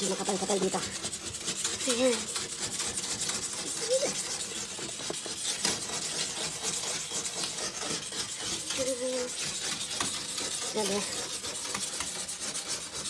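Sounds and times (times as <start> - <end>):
pumice stick scraping cooktop: 0.0 - 13.0.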